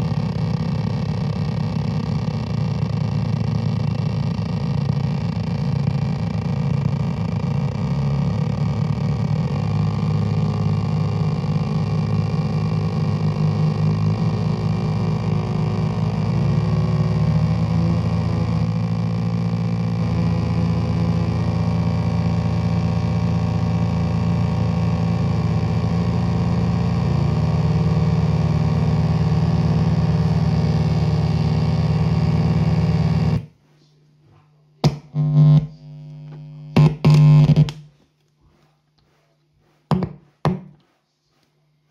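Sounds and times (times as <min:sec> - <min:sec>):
fast stuttering pulse: 0:00.0 - 0:33.6
low electronic drone: 0:00.0 - 0:33.6, 0:34.8 - 0:37.9.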